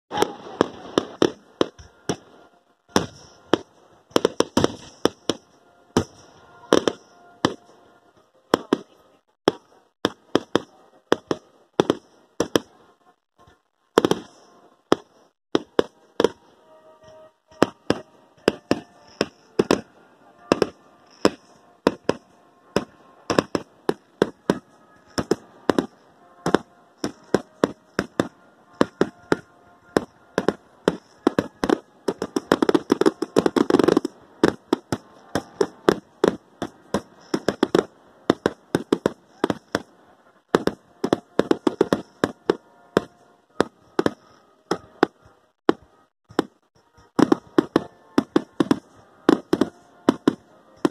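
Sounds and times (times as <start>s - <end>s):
fireworks bursting: 0.1s - 7.8s, 8.5s - 50.9s.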